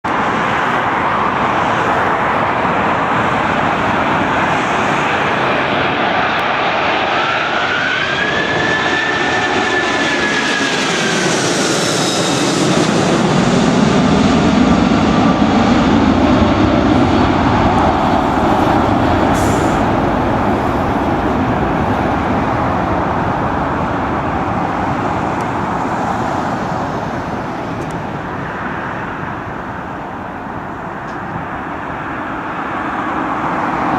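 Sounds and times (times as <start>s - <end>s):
jet engines whine: 0.0s - 33.9s
low jet rumble: 0.1s - 33.9s.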